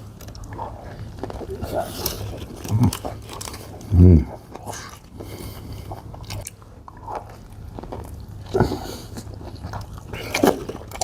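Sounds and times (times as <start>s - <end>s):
chewing and biting a sandwich: 0.0s - 11.0s.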